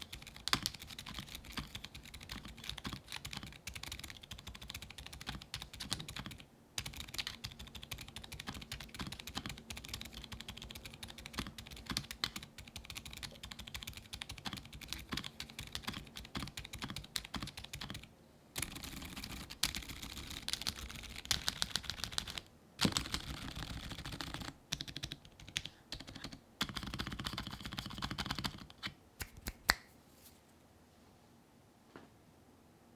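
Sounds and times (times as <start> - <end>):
fast typing on keyboard: 0.0 - 28.9.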